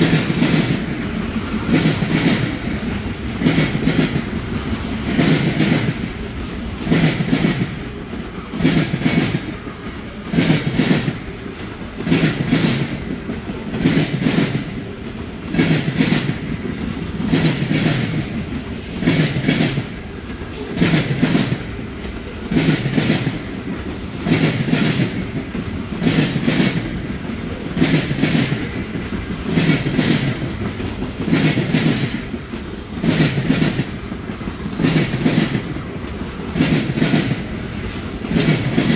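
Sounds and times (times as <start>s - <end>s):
freight train rolling rumble: 0.0s - 38.9s
train wheels clacking over rail joints: 0.0s - 38.9s.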